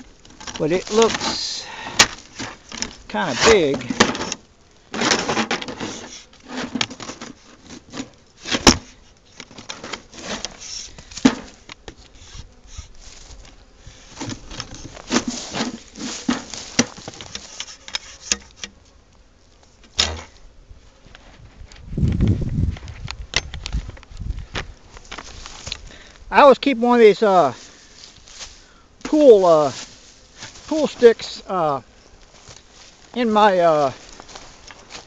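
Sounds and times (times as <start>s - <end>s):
debris and dry leaves crackling: 0.0s - 21.9s, 22.8s - 35.0s.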